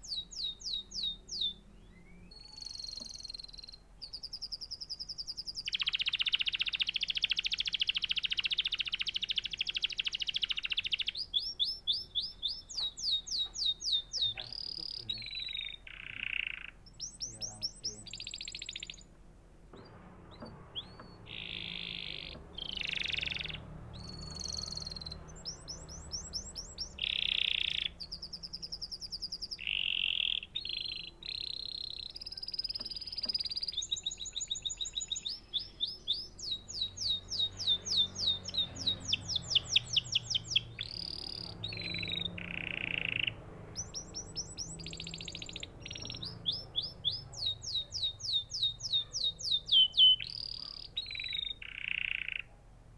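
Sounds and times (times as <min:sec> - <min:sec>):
canary singing trills: 0:00.0 - 0:19.2, 0:20.3 - 0:52.6.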